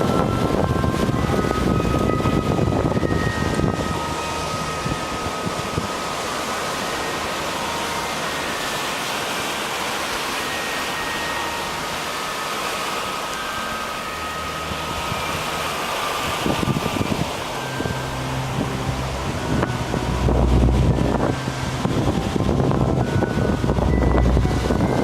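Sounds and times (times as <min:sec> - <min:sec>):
faint steady whine: 0:00.0 - 0:25.0
sea water rushing: 0:00.0 - 0:25.0.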